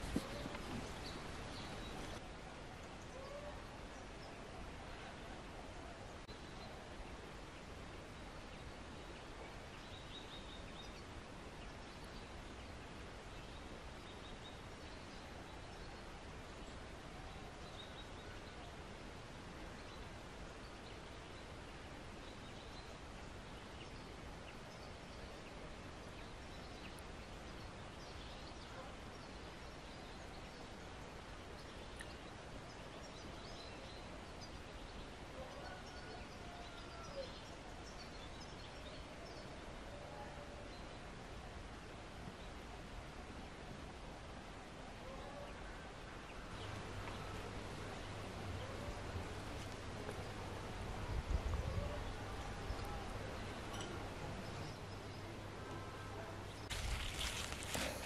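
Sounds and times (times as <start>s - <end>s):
outdoor background hiss: 0.0s - 58.0s.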